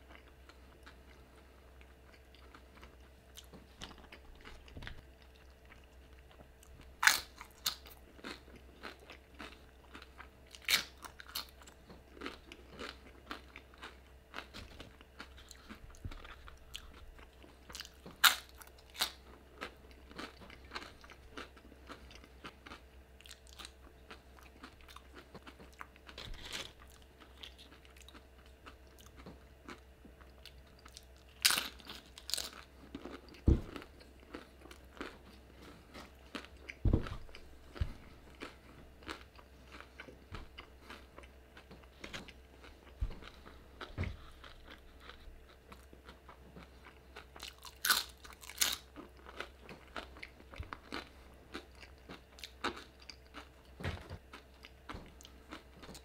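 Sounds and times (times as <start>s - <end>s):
chewing and crunching chips: 0.0s - 56.0s.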